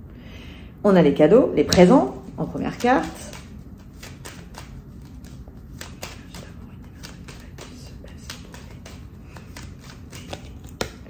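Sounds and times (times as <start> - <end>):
cards being shuffled: 1.7 - 11.0.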